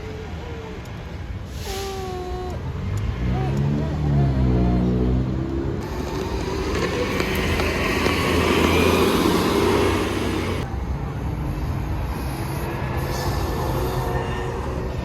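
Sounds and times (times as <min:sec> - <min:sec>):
road vehicle passing: 0:02.5 - 0:15.0.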